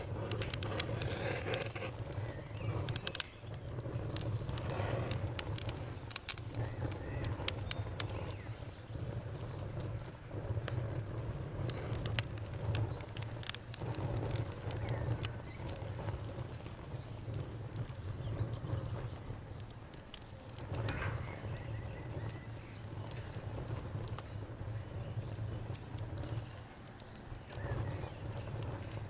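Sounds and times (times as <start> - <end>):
campfire crackling and popping: 0.0 - 29.0
crickets chirping: 0.0 - 29.0.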